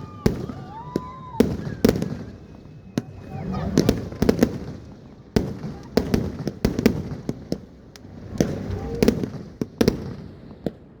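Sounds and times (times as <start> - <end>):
firecrackers banging: 0.0 - 10.9.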